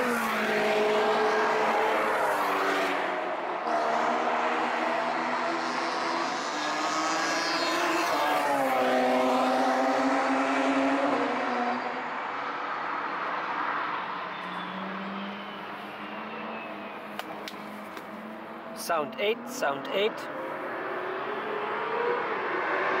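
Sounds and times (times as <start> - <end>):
race car passing at speed: 0.0 - 23.0.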